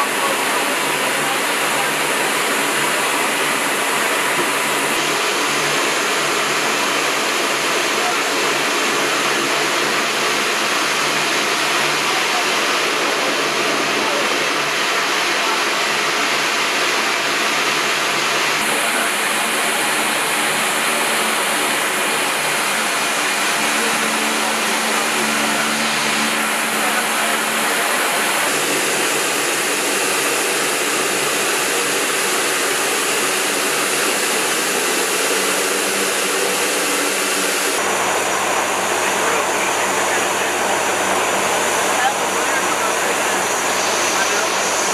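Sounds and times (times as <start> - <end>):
aircraft engine and airflow noise: 0.0 - 44.9.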